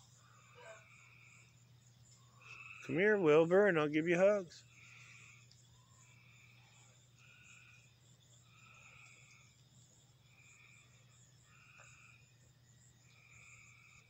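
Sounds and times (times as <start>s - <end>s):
night chorus of repeated trills: 0.0s - 14.0s.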